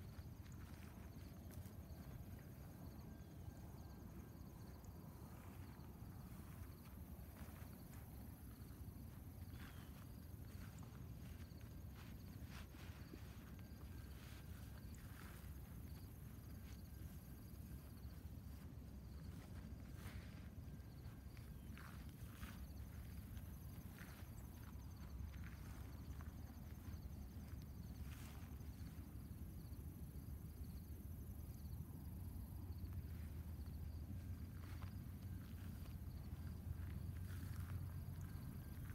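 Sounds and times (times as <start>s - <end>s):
faint insects chirping: 0.0s - 38.9s
low steady rumble: 0.0s - 38.9s.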